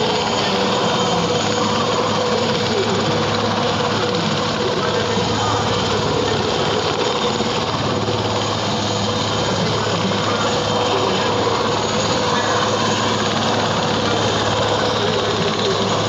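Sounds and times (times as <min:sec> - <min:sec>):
helicopter engine whine: 0:00.0 - 0:16.0
helicopter rotor chopping: 0:00.0 - 0:16.0.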